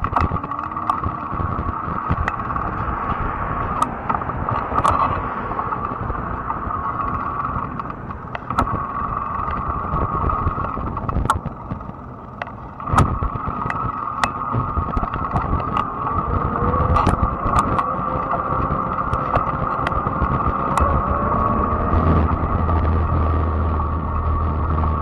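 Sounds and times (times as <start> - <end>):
clicks and knocks from bumps: 0.0 - 25.0
electric bike motor whine: 0.0 - 25.0
tyre and road rumble: 0.0 - 25.0.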